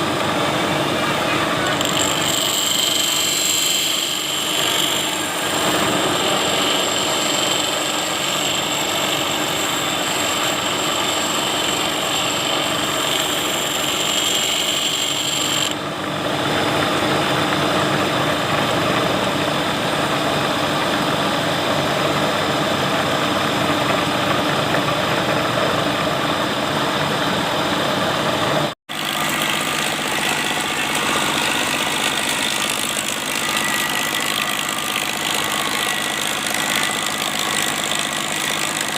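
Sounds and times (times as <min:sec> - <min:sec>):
electric grinder grinding steel: 0:00.0 - 0:25.2, 0:28.9 - 0:38.9.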